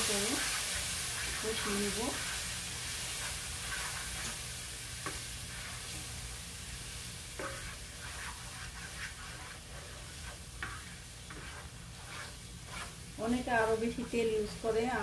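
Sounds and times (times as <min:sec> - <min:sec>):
spatula scraping a pan: 0:00.0 - 0:14.7
paste sizzling in oil: 0:00.0 - 0:15.0.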